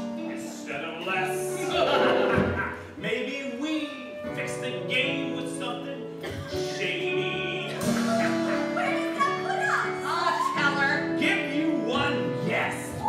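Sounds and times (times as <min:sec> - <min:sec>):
instrumental show tune: 0:00.0 - 0:13.0.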